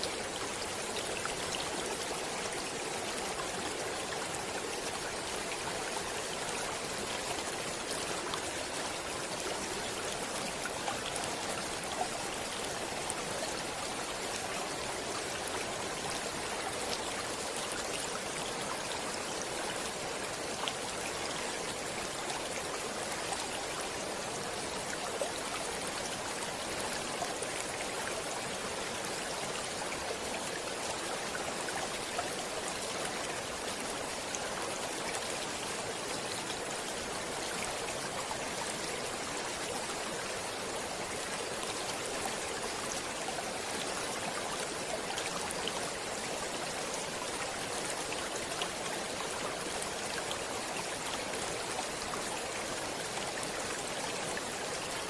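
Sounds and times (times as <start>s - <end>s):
stream water babbling: 0.0s - 55.0s.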